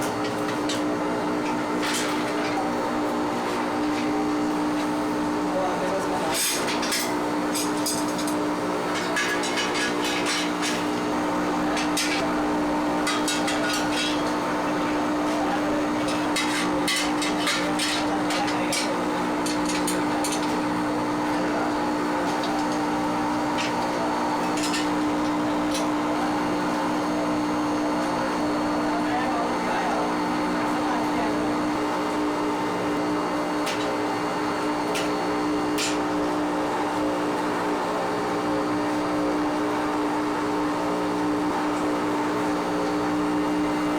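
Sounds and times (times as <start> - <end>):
factory machinery humming: 0.0 - 43.9.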